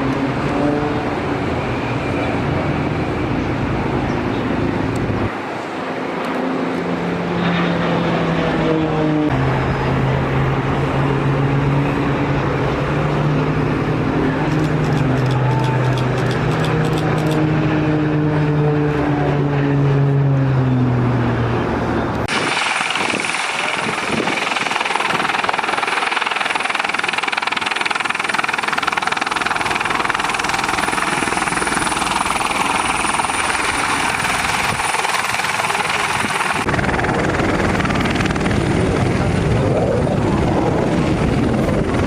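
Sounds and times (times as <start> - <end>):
aircraft engine passing: 0.0 - 42.0
rushing jet engine with whine: 0.0 - 42.0.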